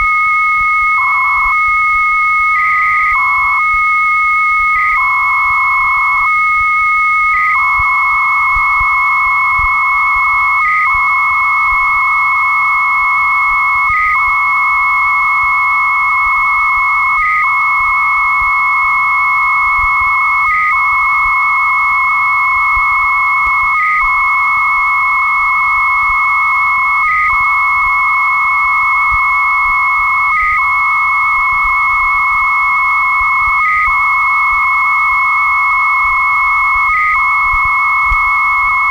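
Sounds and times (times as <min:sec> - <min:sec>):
high modem carrier tone: 0:00.0 - 0:38.9
warbling modem data tone: 0:00.0 - 0:38.9.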